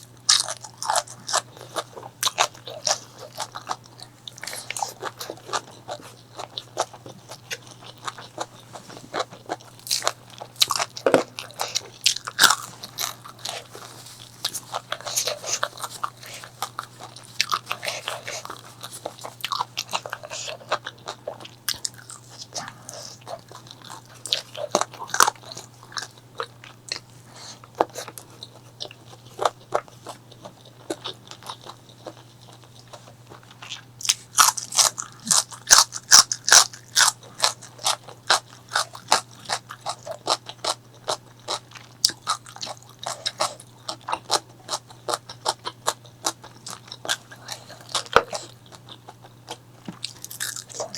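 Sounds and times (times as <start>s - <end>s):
chewing crunchy food: 0.0s - 50.9s.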